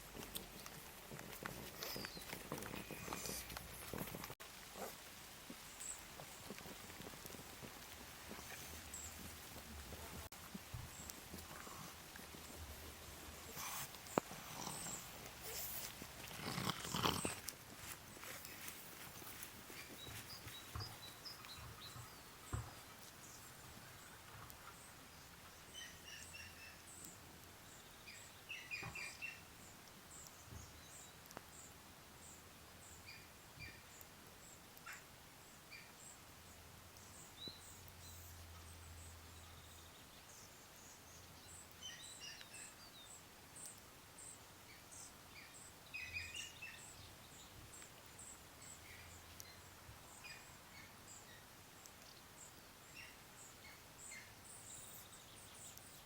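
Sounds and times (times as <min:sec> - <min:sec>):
quiet hiss: 0:00.0 - 0:56.0.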